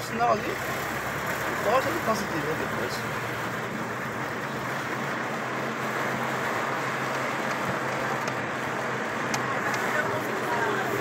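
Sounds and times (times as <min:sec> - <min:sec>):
low engine hum: 0:00.0 - 0:11.0
tyre road noise: 0:00.0 - 0:11.0.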